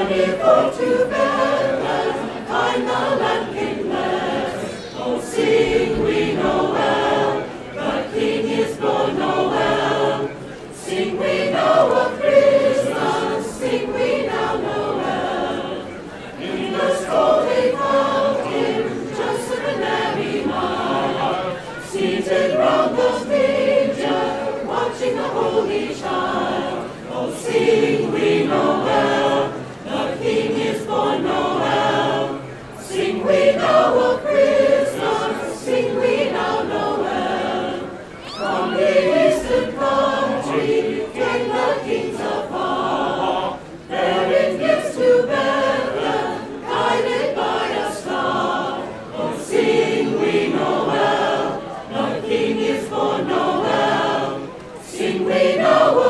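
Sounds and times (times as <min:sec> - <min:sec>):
mixed choir singing unaccompanied: 0:00.0 - 0:56.0.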